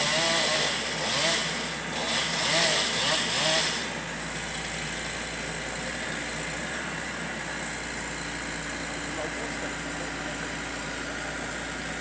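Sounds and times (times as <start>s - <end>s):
chainsaw: 0.0s - 12.0s
excavator engine running: 0.0s - 12.0s.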